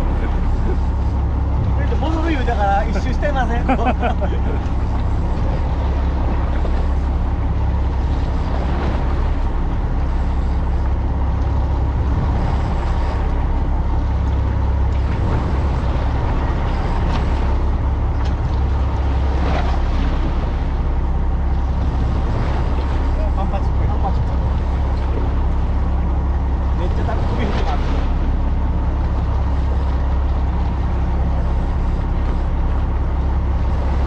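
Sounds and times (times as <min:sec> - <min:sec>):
boat engine humming: 0:00.0 - 0:34.0
rushing water: 0:00.0 - 0:34.0
wind: 0:00.0 - 0:34.0.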